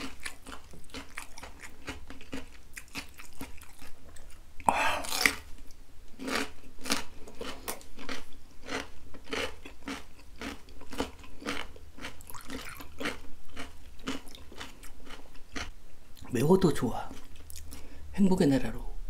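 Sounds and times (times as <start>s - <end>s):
crunchy chewing of cucumber: 0.0s - 16.3s.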